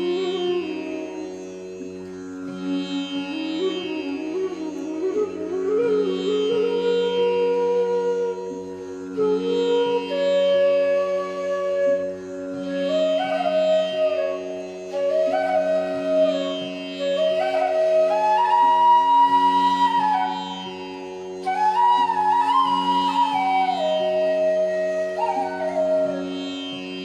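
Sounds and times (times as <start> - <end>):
flute melody: 2.6 - 27.0.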